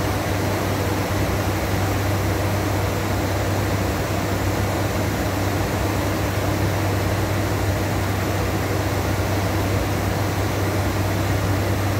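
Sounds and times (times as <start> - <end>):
turboprop cockpit hum and air rush: 0.0 - 11.9.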